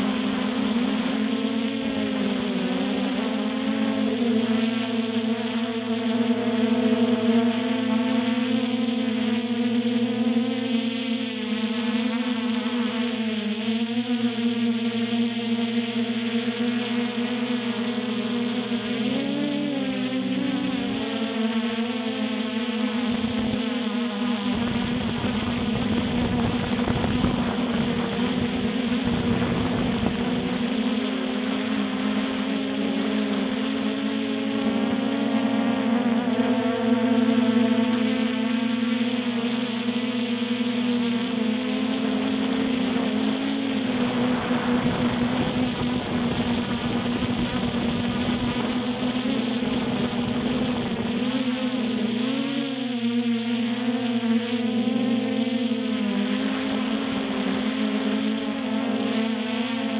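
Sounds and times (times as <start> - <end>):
drone motors buzzing whine: 0.0 - 59.9.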